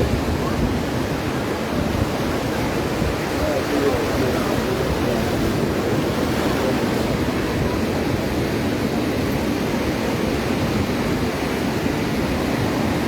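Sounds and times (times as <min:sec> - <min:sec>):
surf breaking on beach: 0:00.0 - 0:13.0
wind: 0:00.0 - 0:13.0.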